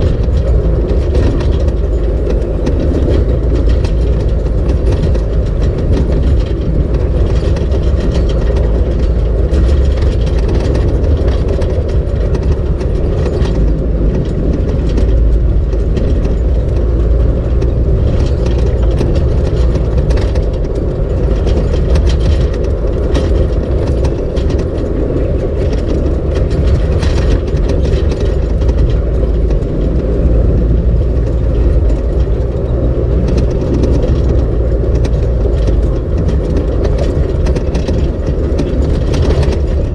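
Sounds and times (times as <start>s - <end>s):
engine and tyre rumble: 0.0s - 39.9s
small clicks and knocks: 0.0s - 39.9s.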